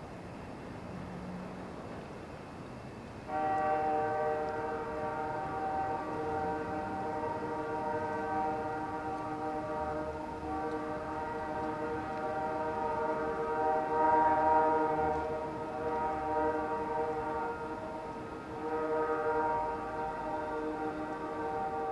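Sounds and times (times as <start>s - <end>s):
distant train air horn blasts: 3.3s - 21.9s.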